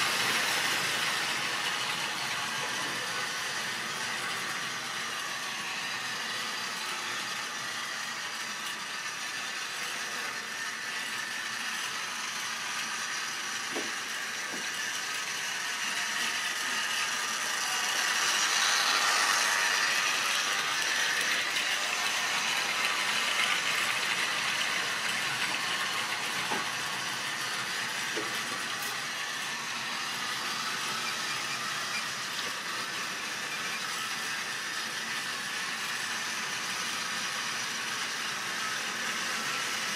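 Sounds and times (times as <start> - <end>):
model train rattling on track: 0.0 - 39.9.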